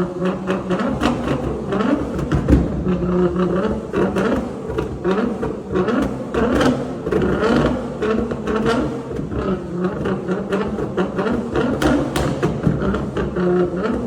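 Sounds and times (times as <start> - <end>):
car engine revving: 0.0 - 14.0
exhaust pops and crackles: 0.0 - 14.0.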